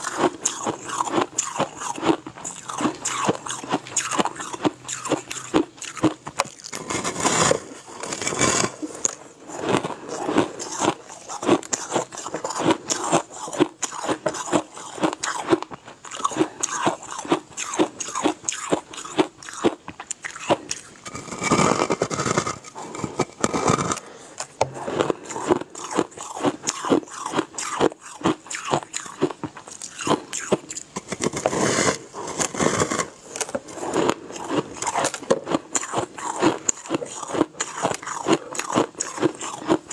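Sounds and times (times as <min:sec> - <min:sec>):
crunching ice: 0:00.0 - 0:39.9.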